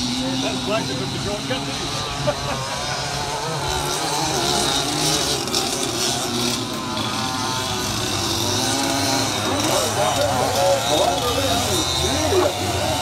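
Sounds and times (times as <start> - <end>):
kart engines buzzing: 0.0 - 13.0.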